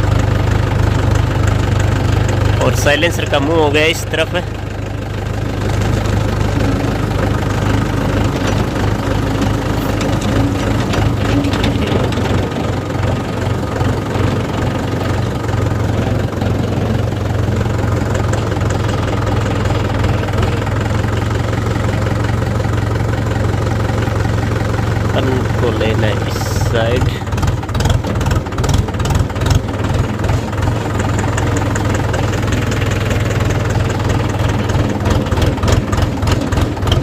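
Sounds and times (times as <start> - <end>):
tractor diesel engine exhaust: 0.0 - 37.0.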